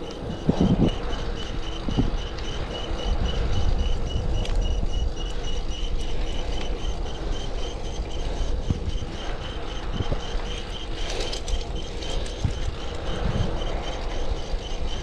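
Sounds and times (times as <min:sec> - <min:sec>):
pulsing bike chain whine: 0:00.0 - 0:15.0.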